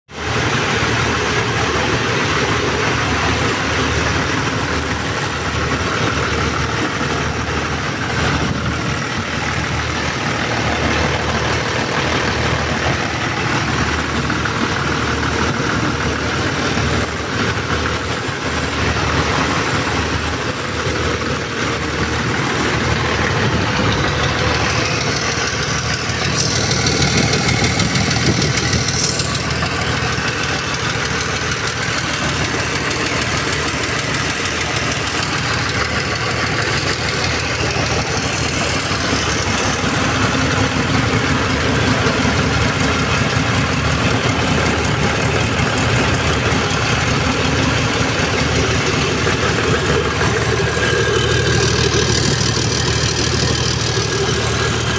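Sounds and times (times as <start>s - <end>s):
diesel engine idling: 0.1s - 54.9s.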